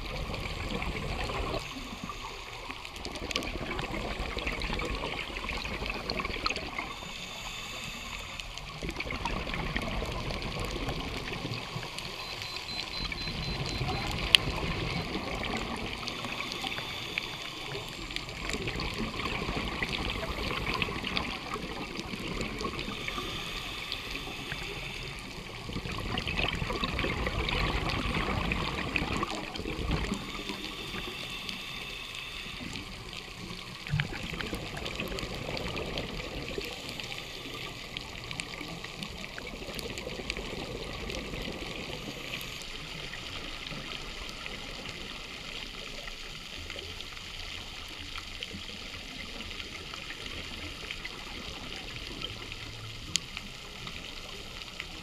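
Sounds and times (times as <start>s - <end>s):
underwater rush of water: 0.0s - 55.0s.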